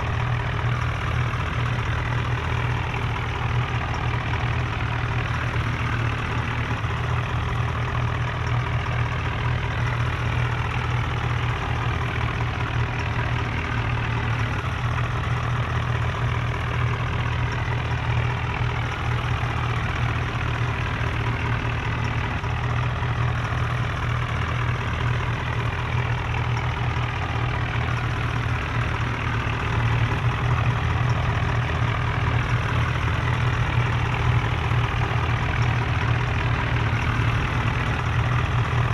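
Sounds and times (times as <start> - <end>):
tractor diesel engines droning: 0.0 - 38.9.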